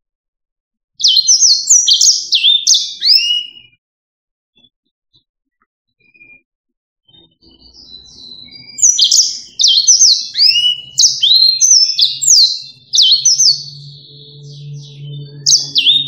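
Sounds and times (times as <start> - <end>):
canary singing whistled notes: 1.0 - 3.8, 5.9 - 16.0.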